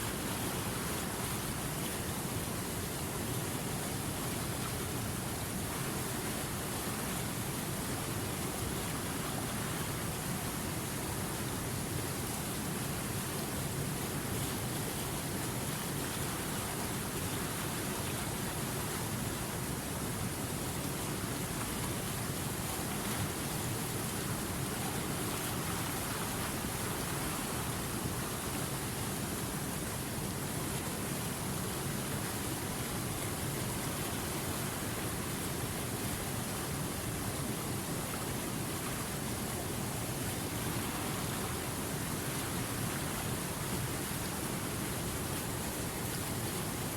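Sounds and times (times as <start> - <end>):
river water rushing over rocks: 0.0 - 46.9.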